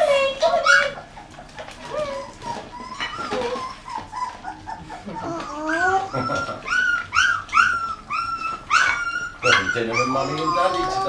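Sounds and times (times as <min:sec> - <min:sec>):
puppies whimpering and yipping: 0:00.0 - 0:11.0.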